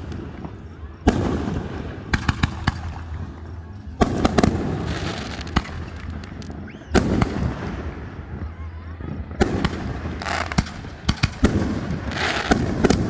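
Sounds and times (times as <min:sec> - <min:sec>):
fireworks cracking and booming: 0:00.0 - 0:13.0.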